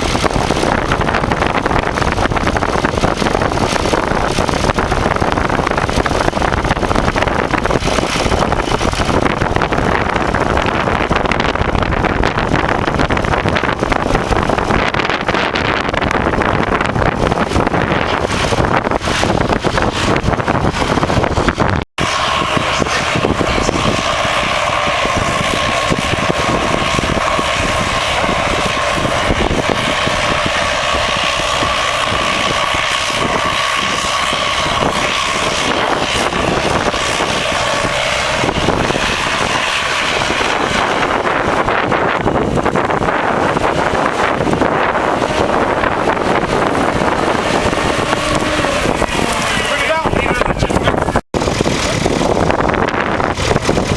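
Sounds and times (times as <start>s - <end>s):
engine running with whine: 0.0s - 53.9s
wind buffeting microphone: 0.0s - 53.9s.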